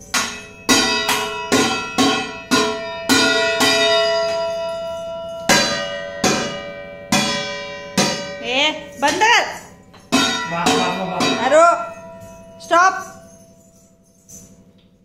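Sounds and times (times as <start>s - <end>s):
steel containers struck ringing: 0.0s - 14.7s.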